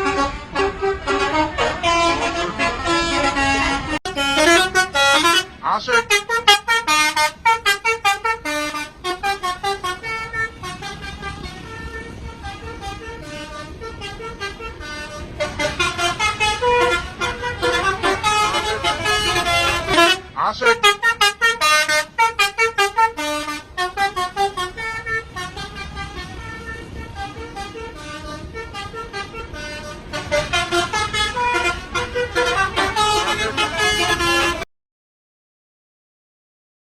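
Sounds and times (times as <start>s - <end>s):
bus musical air horns: 0.0s - 34.7s.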